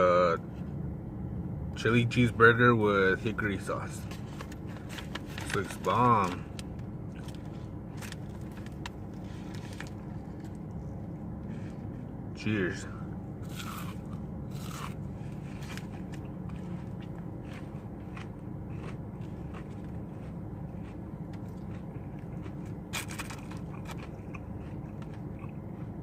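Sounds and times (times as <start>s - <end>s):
steady low hum: 0.0s - 26.0s
crunchy chewing: 4.0s - 12.2s, 13.4s - 26.0s.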